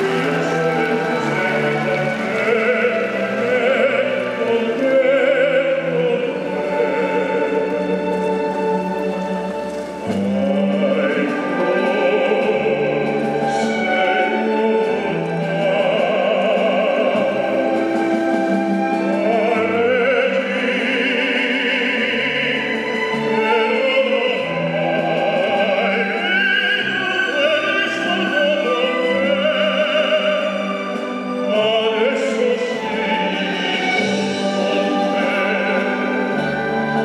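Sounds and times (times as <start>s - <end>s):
classical orchestra: 0.0s - 37.0s
operatic singing with vibrato: 0.0s - 37.0s.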